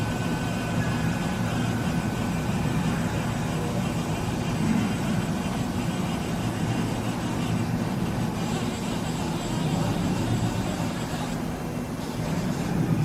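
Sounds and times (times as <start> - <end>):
milling machine humming and whining: 0.0 - 13.0.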